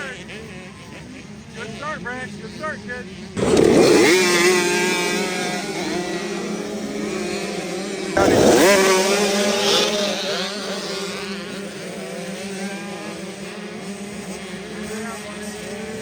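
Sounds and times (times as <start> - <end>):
dirt bike engines revving: 0.0 - 16.0
dirt bike passing close by: 0.0 - 16.0.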